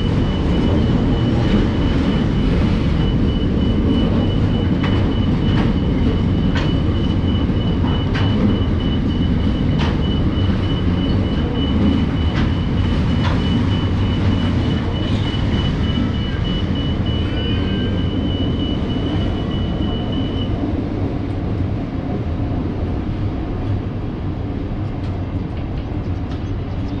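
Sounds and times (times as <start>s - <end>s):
train wagons rumbling on rails: 0.0s - 27.0s.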